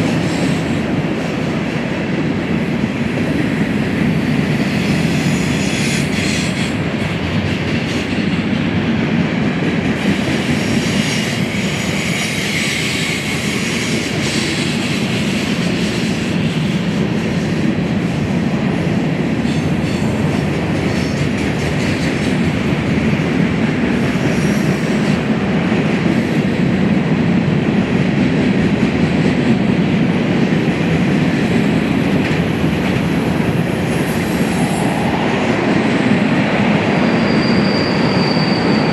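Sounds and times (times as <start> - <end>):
steel wheels rumbling on rail: 0.0 - 38.9.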